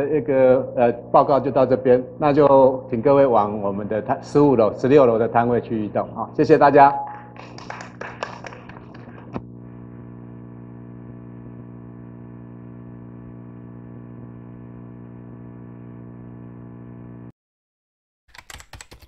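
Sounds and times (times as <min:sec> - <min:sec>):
electrical hum from sound system: 0:00.0 - 0:17.3.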